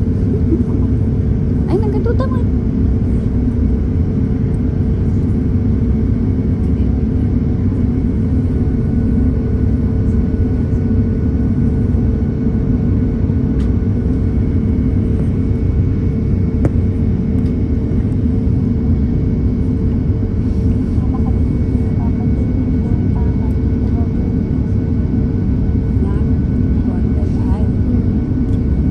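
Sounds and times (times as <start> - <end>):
jet engine cabin rumble: 0.0 - 28.9.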